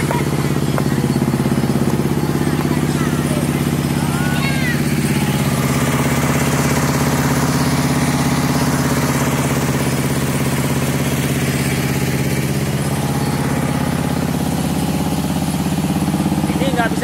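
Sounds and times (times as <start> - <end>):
diesel engine running steadily: 0.0 - 17.0.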